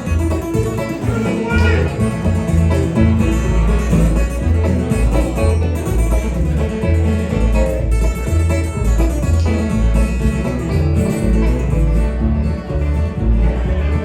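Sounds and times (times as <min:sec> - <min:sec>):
acoustic guitar picking: 0:00.0 - 0:14.0
banjo picking: 0:00.0 - 0:14.0
bass line: 0:00.0 - 0:14.0.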